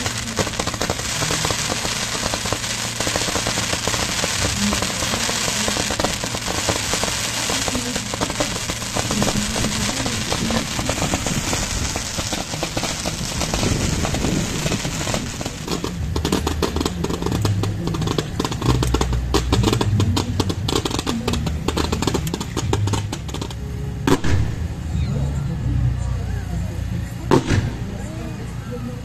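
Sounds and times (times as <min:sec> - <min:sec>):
spark fountains hissing: 0:00.0 - 0:23.6
fireworks crackling: 0:00.0 - 0:29.0
low rumble: 0:00.0 - 0:29.0.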